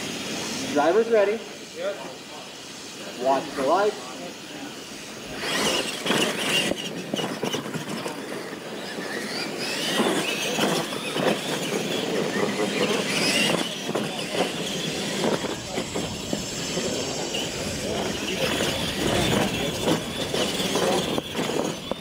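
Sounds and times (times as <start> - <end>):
toy truck motors whining: 0.0 - 22.0.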